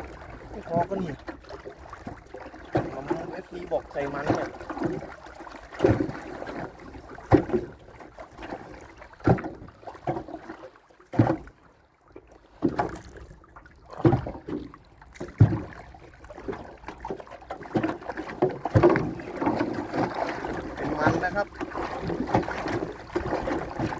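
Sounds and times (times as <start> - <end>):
knocks from small boat: 0.0 - 11.6, 12.6 - 13.3, 13.9 - 23.9.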